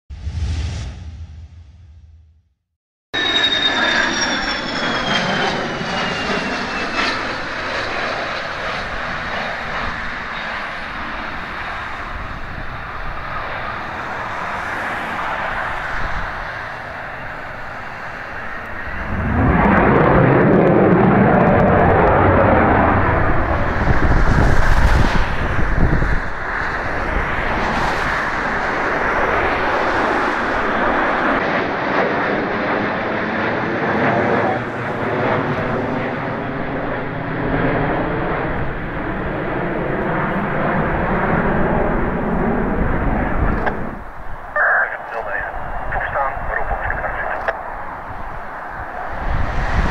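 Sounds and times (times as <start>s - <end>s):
jet engine roar: 0.1s - 1.8s, 3.2s - 49.9s
jet engine whine: 0.1s - 2.2s, 3.2s - 49.9s.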